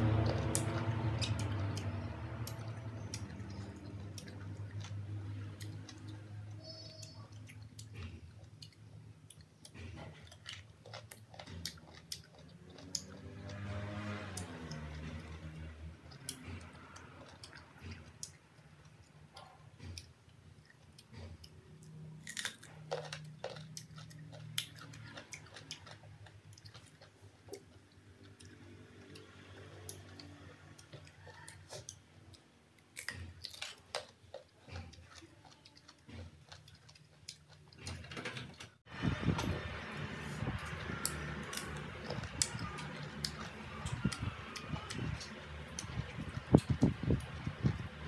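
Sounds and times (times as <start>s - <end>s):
crunching and chewing mango: 0.0s - 48.0s.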